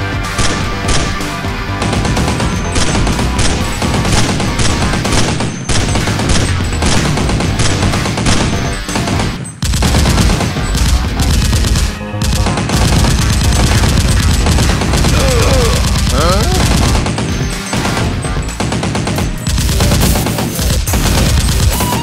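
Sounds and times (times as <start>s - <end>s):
background music: 0.0s - 22.0s
automatic gunfire: 0.4s - 22.0s.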